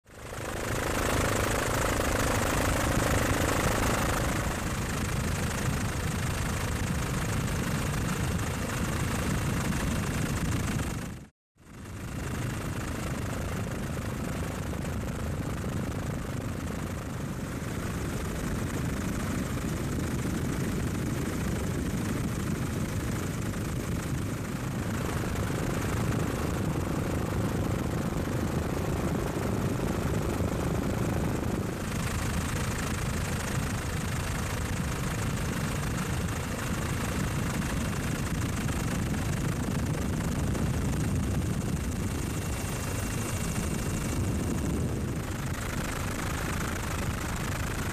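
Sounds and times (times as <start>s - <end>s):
helicopter engine and rotor: 0.1s - 47.9s.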